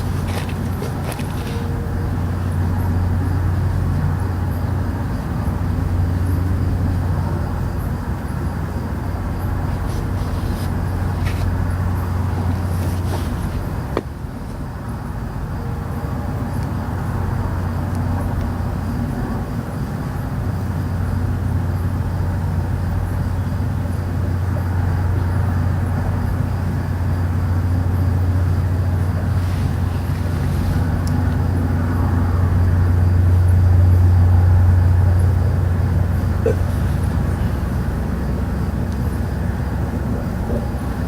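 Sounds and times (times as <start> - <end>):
deep droning hum outdoors: 0.0 - 41.0.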